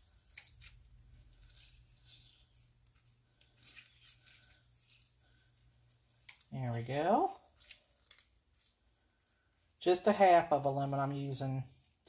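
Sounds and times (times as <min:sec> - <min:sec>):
lemon squishing and dripping: 0:00.0 - 0:09.8.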